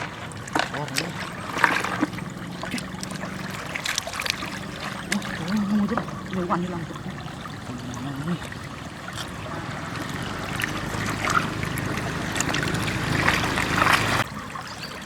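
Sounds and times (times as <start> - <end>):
floodwater running and splashing: 0.0 - 15.0.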